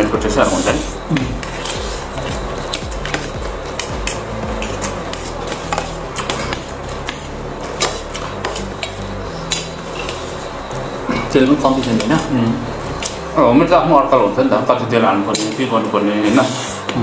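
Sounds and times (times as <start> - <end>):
low steady drone: 0.0 - 17.0.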